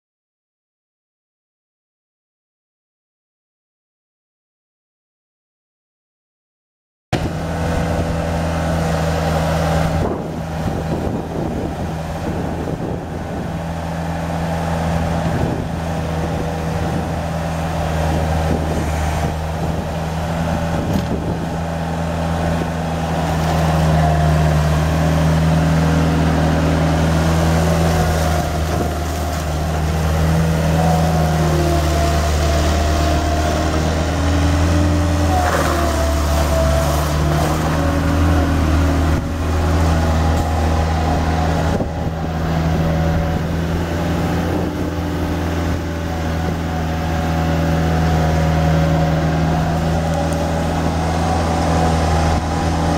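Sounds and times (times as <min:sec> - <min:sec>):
diesel engine running: 0:07.2 - 0:52.9.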